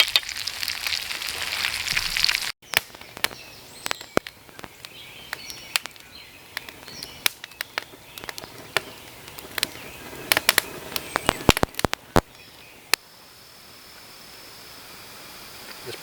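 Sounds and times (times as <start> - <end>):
fire crackling and popping: 0.0 - 14.8
birds chirping faintly: 2.6 - 16.0.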